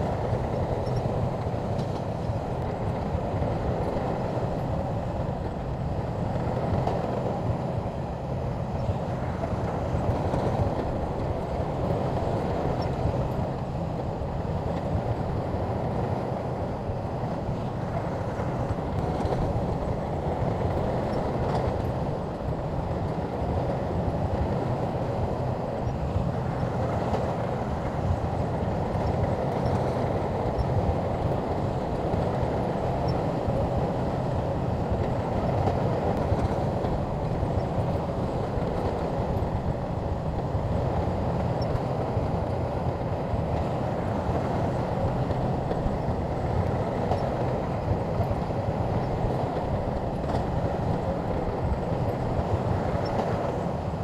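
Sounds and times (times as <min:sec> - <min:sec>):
steel tracks clanking: 0:00.0 - 0:54.0.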